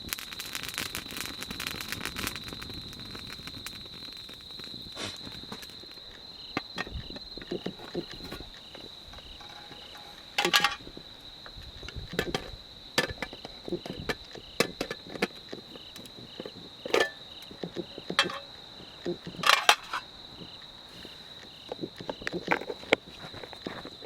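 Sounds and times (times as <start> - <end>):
campfire pops and clicks: 0.0 - 24.0
insect chirping: 0.0 - 24.0
insect steady high trill: 0.1 - 21.9.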